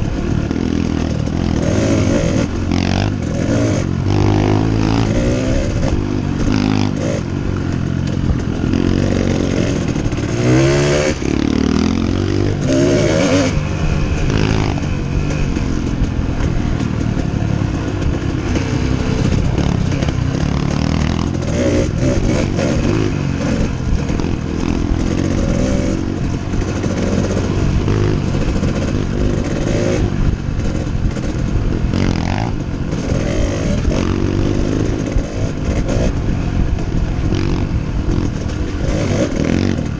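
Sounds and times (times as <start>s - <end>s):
bike clattering over bumps: 0.0s - 39.9s
dirt bike engine revving: 0.0s - 39.9s.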